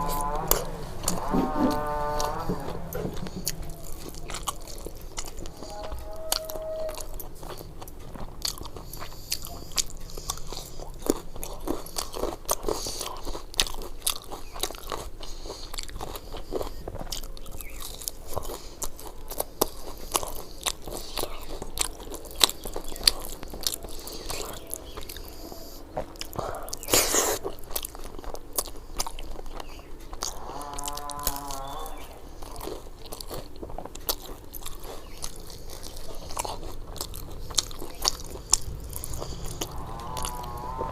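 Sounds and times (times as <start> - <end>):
chewing with wet mouth sounds: 0.0 - 40.9
crunchy bites: 0.0 - 40.9.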